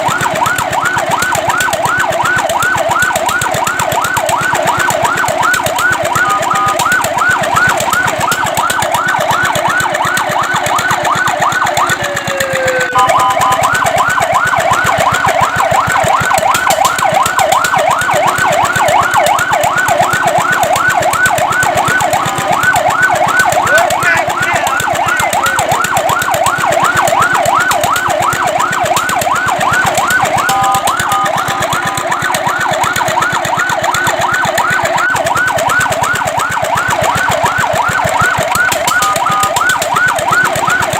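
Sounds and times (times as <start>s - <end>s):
fire truck siren yelping: 0.0s - 40.9s.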